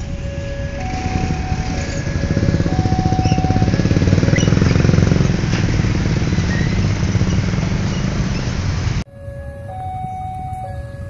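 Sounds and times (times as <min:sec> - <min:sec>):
motorcycle engines pulling away: 0:00.0 - 0:11.0.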